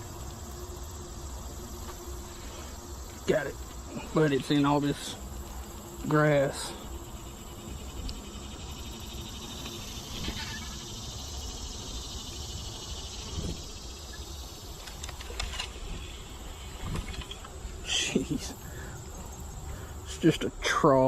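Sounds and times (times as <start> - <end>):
high-pitched insect buzzing: 0.0 - 20.1.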